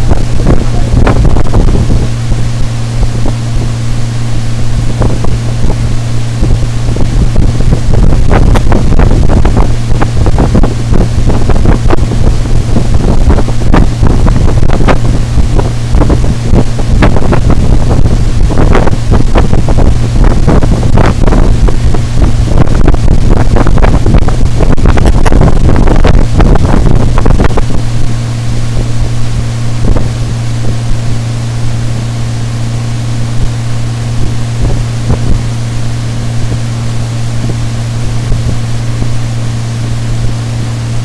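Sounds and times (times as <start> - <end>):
outboard motor running: 0.0 - 41.0
wind rushing over microphone: 0.0 - 41.0.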